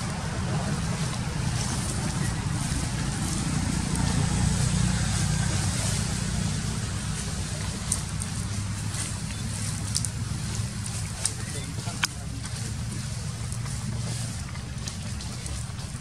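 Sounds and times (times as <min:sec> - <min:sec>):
dry leaves crackling: 0:00.0 - 0:16.0
wind buffeting microphone: 0:00.0 - 0:16.0.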